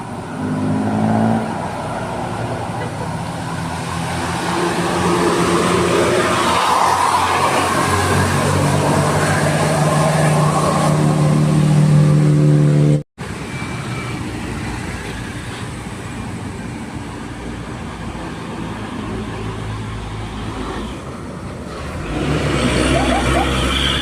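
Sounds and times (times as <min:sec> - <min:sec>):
traffic noise: 0:00.0 - 0:24.0
vehicle running: 0:00.0 - 0:24.0.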